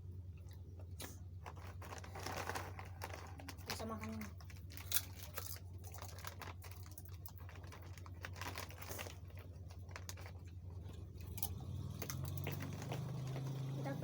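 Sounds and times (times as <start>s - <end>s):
snack packaging crinkling: 0.5s - 13.9s.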